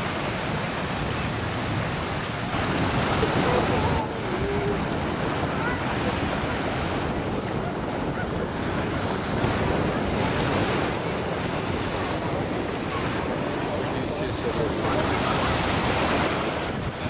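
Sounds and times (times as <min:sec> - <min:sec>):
waves on open water: 0:00.0 - 0:17.0
wind buffeting microphone: 0:00.0 - 0:17.0.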